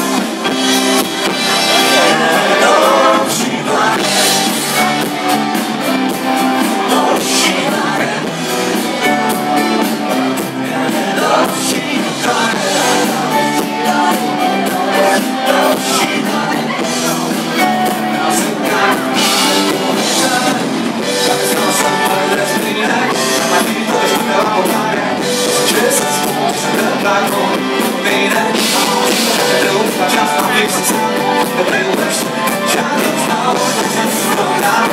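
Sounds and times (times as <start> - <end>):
live rock band playing: 0.0 - 34.9
person singing: 0.0 - 34.9.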